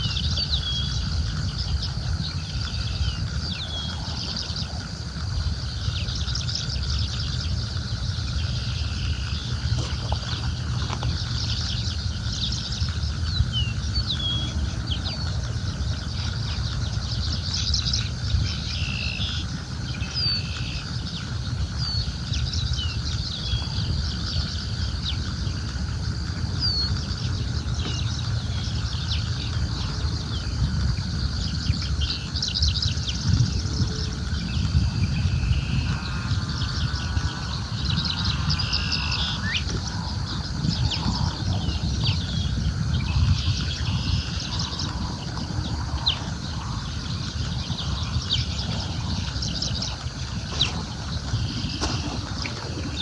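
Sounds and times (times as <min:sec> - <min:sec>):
birds chirping and trilling: 0:00.0 - 0:53.0
wind rumble on microphone: 0:00.0 - 0:53.0.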